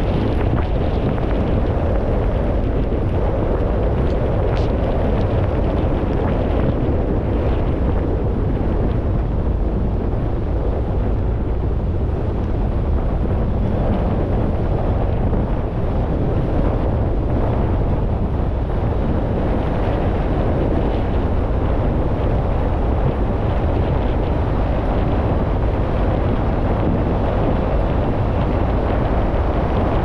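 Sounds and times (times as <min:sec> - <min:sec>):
wind noise: 0:00.0 - 0:30.0.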